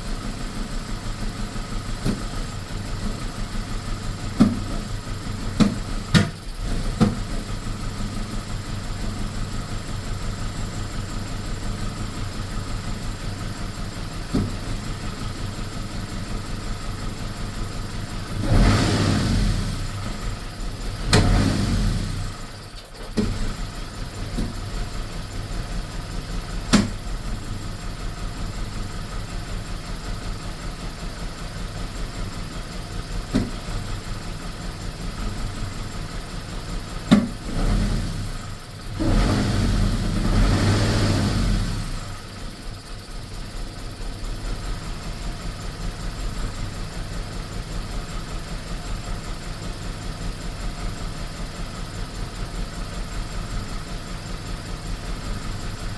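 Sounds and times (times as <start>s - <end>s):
car engine idling roughly: 0.0s - 55.9s.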